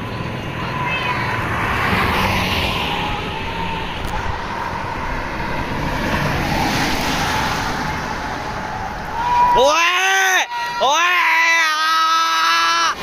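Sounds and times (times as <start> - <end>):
cars passing on highway: 0.0 - 13.0.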